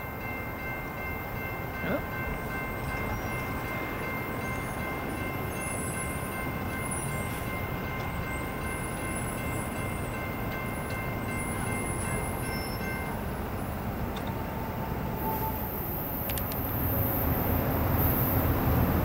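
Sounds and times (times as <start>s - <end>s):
freight train rumbling: 0.0s - 19.0s.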